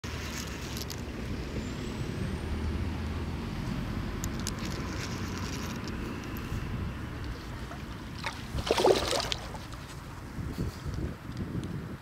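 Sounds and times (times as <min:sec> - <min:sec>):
low outdoor rumble: 0:00.1 - 0:12.0.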